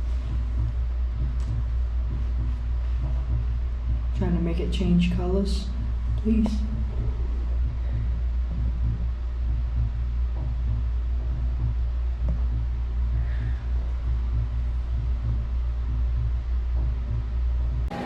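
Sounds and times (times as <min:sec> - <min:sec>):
faint pulsing hum: 0:00.0 - 0:18.0
low rumble: 0:00.0 - 0:18.0.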